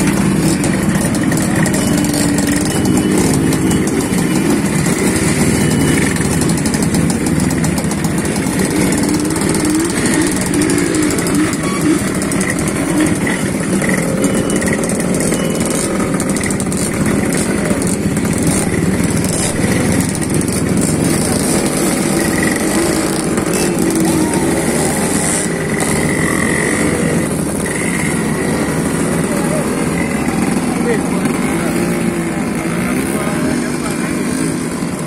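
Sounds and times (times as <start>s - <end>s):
motorcycle engines passing: 0.0s - 35.0s.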